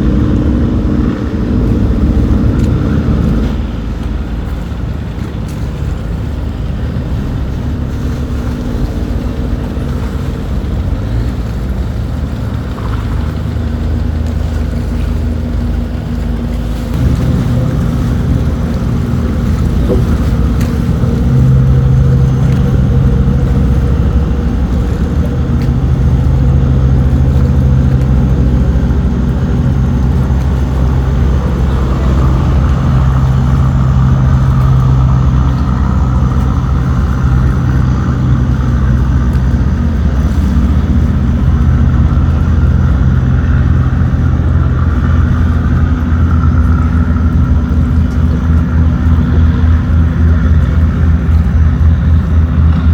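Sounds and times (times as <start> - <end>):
diesel engine droning: 0.0 - 52.9.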